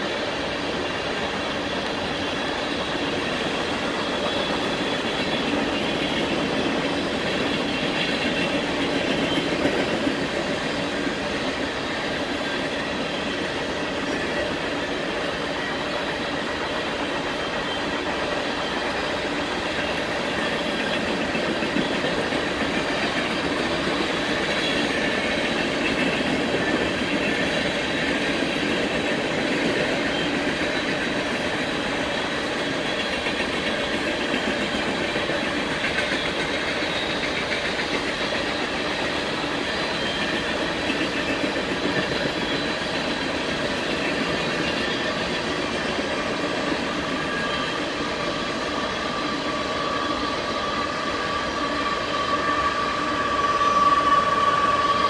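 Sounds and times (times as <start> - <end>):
train cars rolling on rails: 0.0 - 55.0.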